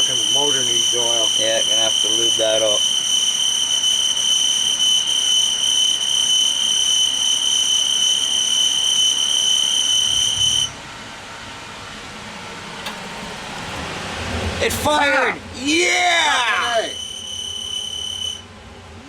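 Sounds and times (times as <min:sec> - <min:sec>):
blower motor squealing: 0:00.0 - 0:10.8, 0:12.8 - 0:18.5.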